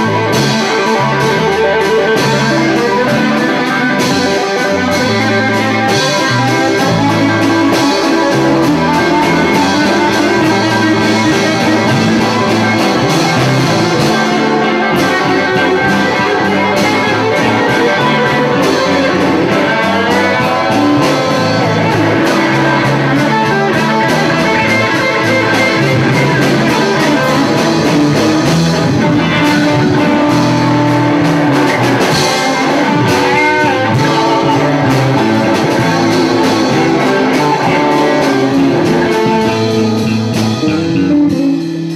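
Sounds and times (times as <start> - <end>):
bass guitar: 0.0 - 41.9
drums: 0.0 - 41.9
electric guitar: 0.0 - 41.9.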